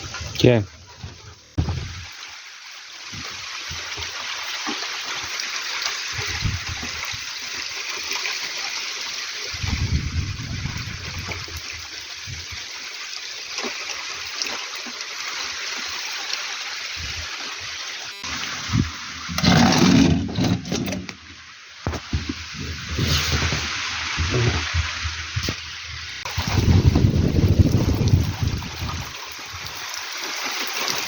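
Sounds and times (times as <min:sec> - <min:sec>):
water splashing and running: 0:00.0 - 0:31.0.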